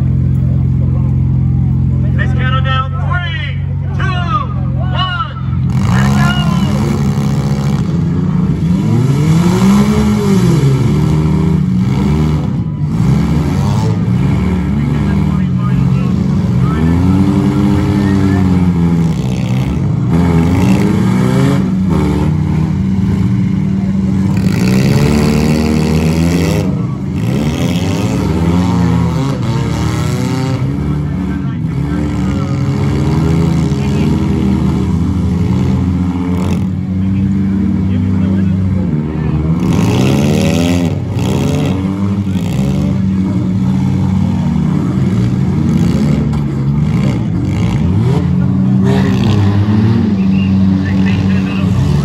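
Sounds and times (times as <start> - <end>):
car engines revving: 0.0 - 52.0.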